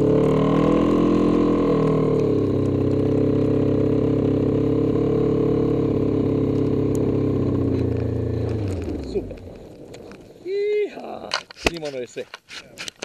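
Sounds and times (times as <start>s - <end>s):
snowmobile engine running: 0.0s - 11.9s.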